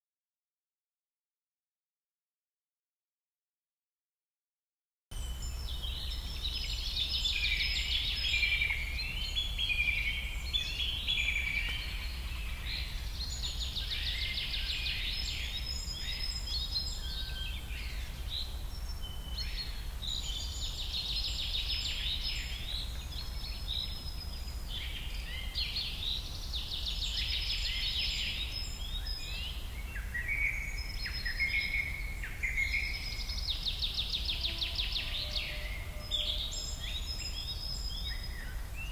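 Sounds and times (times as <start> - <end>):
birds chirping and trilling: 5.1 - 38.9.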